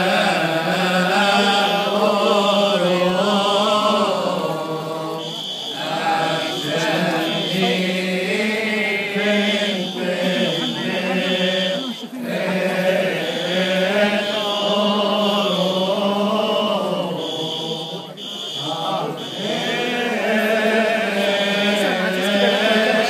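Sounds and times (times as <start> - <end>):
congregation chanting a hymn: 0.0 - 23.0.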